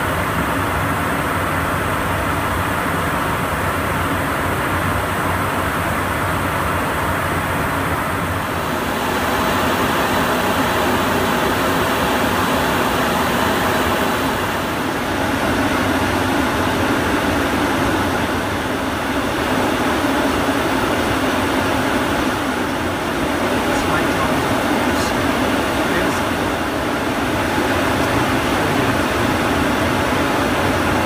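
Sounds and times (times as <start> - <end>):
jet cockpit cabin noise: 1.7 - 31.0.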